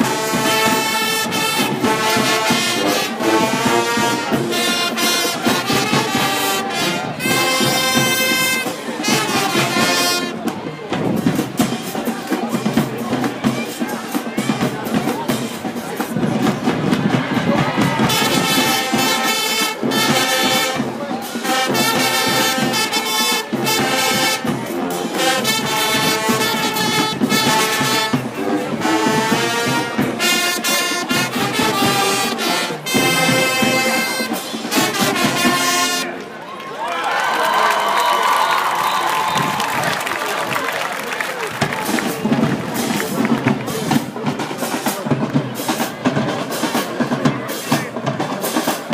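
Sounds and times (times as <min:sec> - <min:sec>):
brass band playing held chords: 0:00.0 - 0:36.4, 0:37.5 - 0:48.9
drums: 0:00.0 - 0:36.4, 0:37.3 - 0:48.9.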